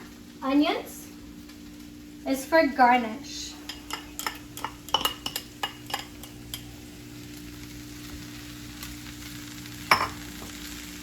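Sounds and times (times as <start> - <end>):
low steady hum: 0.0 - 11.0
noodles sizzling in a wok: 0.0 - 11.0.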